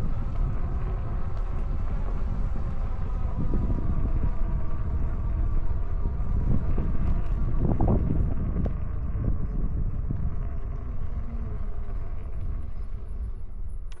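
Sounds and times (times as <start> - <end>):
bike tyre rumble on trail: 0.0 - 14.0
wind buffeting microphone: 0.0 - 14.0.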